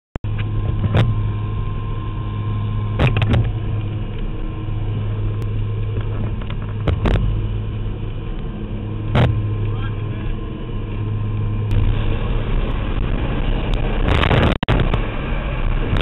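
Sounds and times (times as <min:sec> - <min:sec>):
airplane engines droning: 0:00.2 - 0:16.0
bursts of cabin noise: 0:00.3 - 0:16.0.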